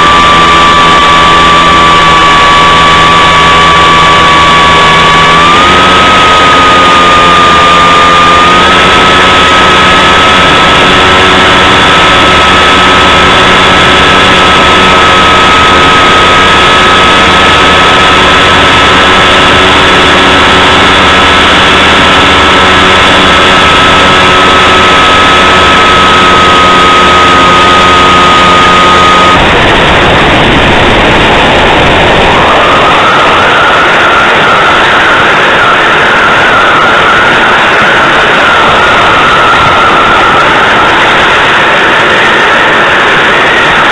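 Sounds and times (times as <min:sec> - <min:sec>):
low hum: 0:00.0 - 0:43.9
model aircraft engine drone: 0:00.0 - 0:43.9.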